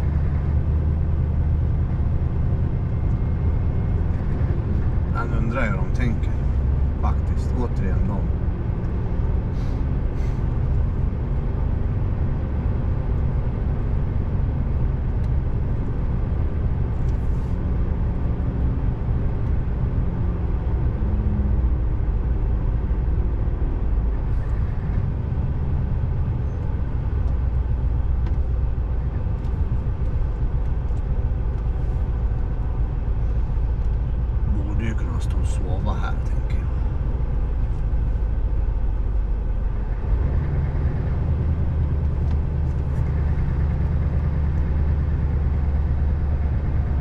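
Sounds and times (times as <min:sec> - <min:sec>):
diesel truck engine rumbling: 0:00.0 - 0:47.0.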